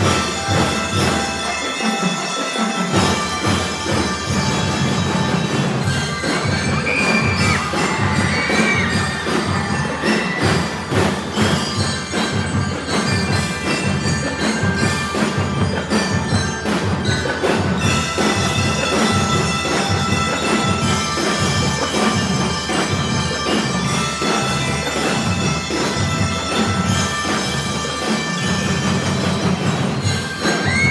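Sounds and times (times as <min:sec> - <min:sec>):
bell lyres ringing melody: 0:00.0 - 0:30.9
marching drums beat: 0:00.0 - 0:30.9.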